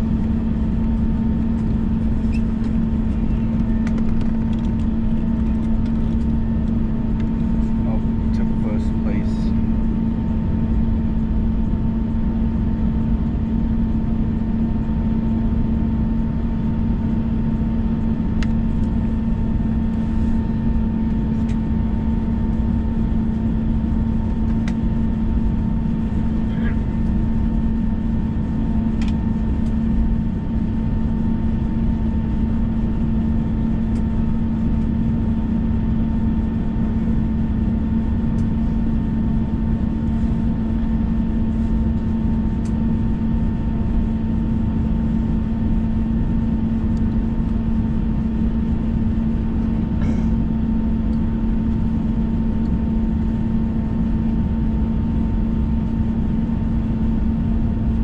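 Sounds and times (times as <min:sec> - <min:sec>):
constant hum: 0:00.0 - 0:58.0
jet engine cabin rumble: 0:00.0 - 0:58.0.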